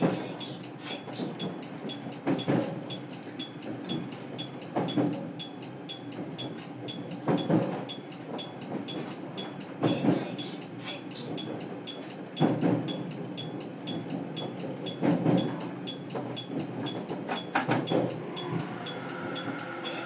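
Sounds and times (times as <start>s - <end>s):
train rumble inside car: 0.0s - 20.0s.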